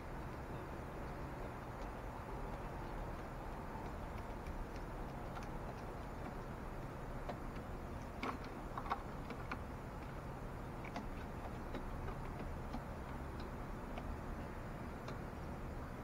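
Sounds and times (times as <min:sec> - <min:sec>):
low steady hum: 0:00.0 - 0:16.0
crows pecking and tapping: 0:00.2 - 0:15.3.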